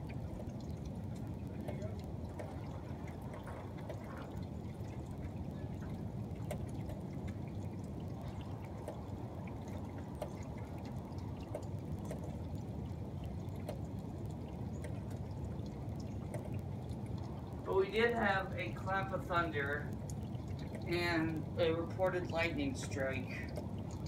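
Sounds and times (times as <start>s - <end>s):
rainwater trickling: 0.0s - 24.0s
water drips ticking: 0.0s - 24.0s.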